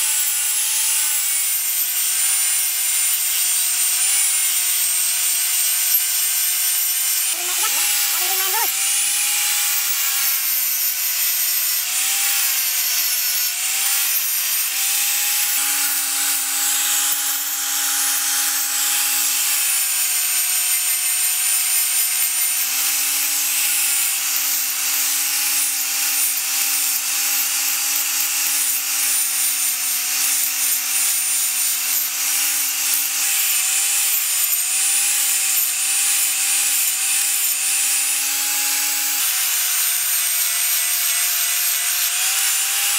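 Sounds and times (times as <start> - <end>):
angle grinder sanding steel: 0.0 - 42.9.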